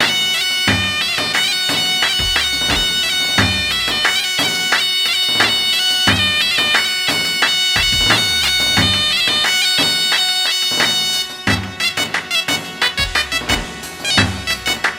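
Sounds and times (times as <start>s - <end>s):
drum beating rhythm: 0.0s - 14.9s
reedy wind instrument melody: 0.0s - 14.9s.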